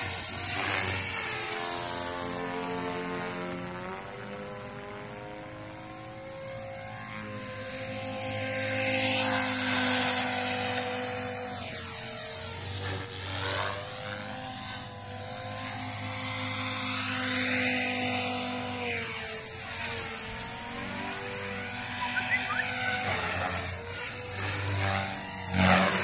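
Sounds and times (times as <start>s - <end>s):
rc helicopter rotor whine: 0.0s - 26.0s.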